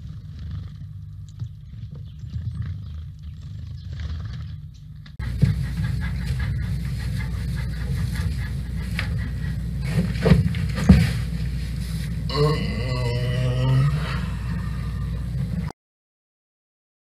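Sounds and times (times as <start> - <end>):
steady low rumble: 0.0 - 15.7.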